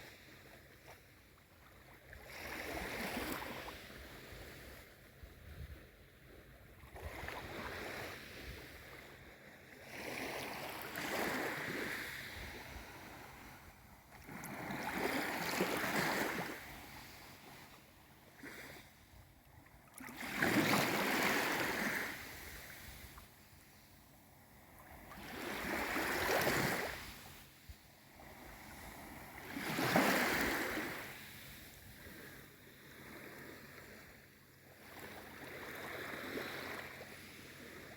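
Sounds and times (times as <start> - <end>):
small waves washing in: 0.0 - 19.2, 19.8 - 37.9.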